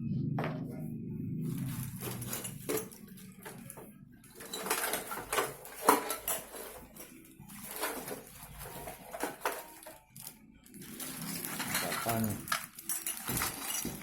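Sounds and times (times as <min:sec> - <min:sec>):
packaging rustling: 0:01.5 - 0:14.0.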